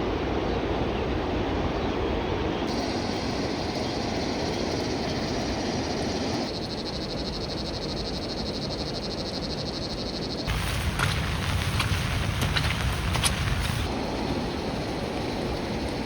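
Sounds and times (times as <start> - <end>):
steady background hiss: 2.1 - 16.0.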